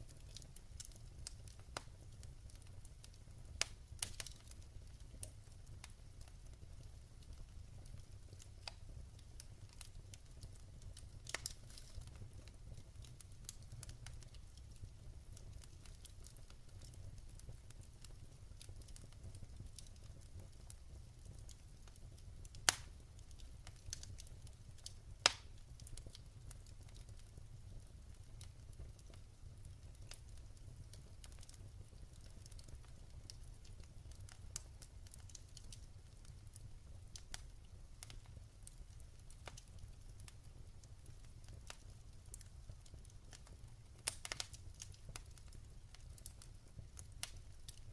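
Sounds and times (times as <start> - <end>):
wood fire popping and snapping: 0.0 - 47.9.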